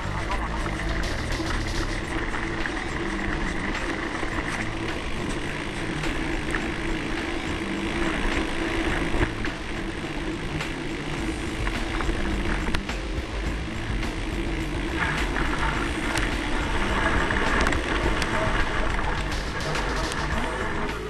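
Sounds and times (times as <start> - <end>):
camera rattling: 0.0 - 20.8
wind on microphone: 0.0 - 21.0.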